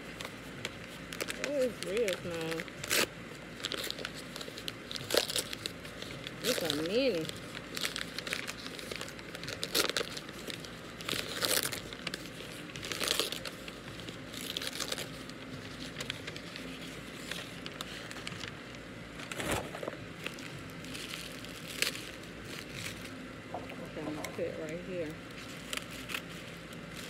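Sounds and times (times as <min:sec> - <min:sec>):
tissue paper crinkling: 0:00.0 - 0:27.0.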